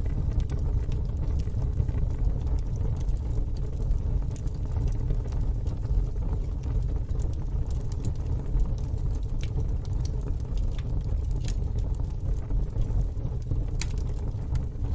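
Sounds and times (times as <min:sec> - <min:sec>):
low fire rumble: 0:00.0 - 0:14.9
wood fire crackling and popping: 0:00.0 - 0:14.9.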